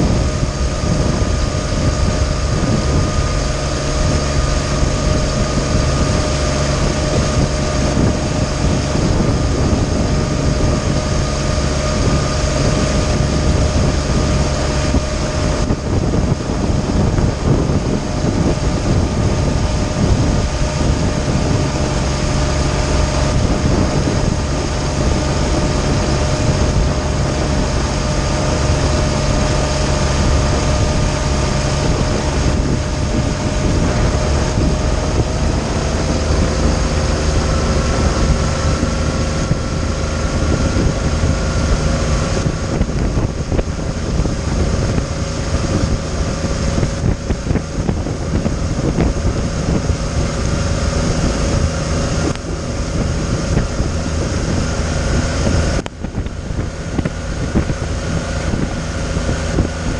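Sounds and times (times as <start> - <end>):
outboard motor running: 0.0 - 59.9
water churning past hull: 0.0 - 59.9.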